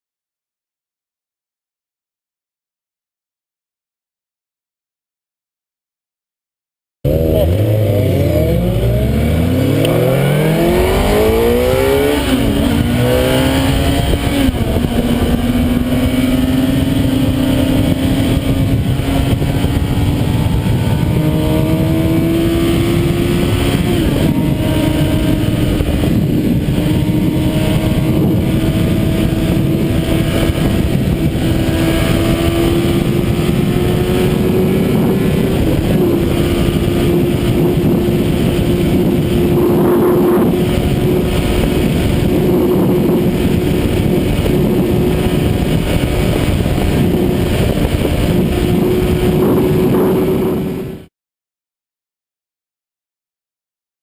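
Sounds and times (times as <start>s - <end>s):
car engine pulling through gears: 7.1s - 51.1s
wind and road noise: 7.1s - 51.1s.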